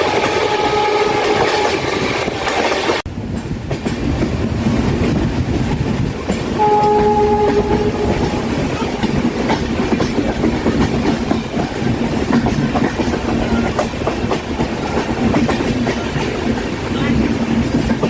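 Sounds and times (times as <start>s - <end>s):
train rumbling: 0.0s - 18.0s
wheels clattering over rails: 1.2s - 18.0s.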